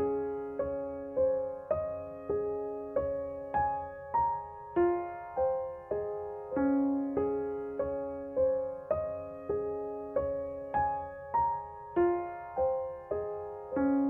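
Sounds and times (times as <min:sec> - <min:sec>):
slow gentle piano melody: 0:00.0 - 0:14.0.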